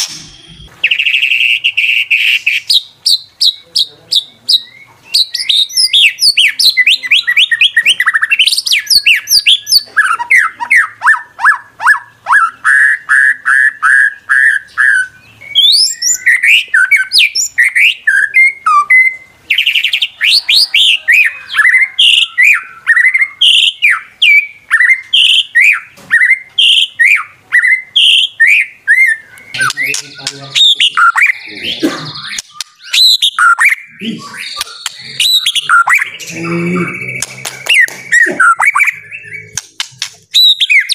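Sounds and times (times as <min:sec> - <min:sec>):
bird chattering: 0:00.0 - 0:40.9
bird singing whistled song: 0:00.0 - 0:40.9.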